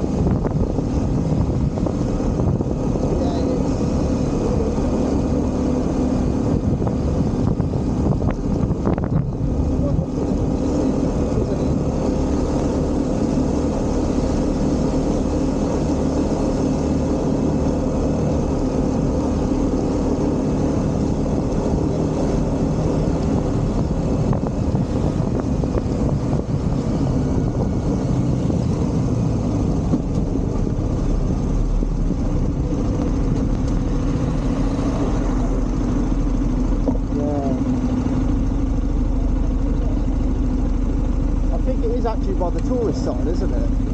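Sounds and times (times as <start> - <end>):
constant rushing noise: 0.0 - 43.9
vehicle engine droning: 0.0 - 43.9.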